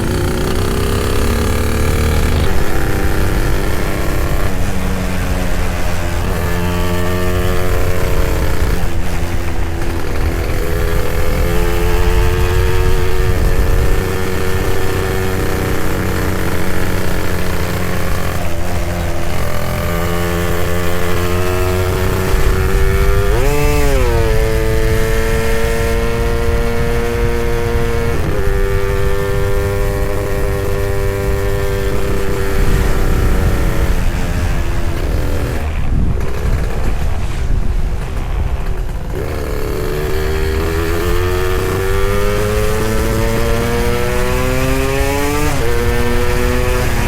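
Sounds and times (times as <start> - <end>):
two-stroke motorcycle engine running: 0.0 - 47.0.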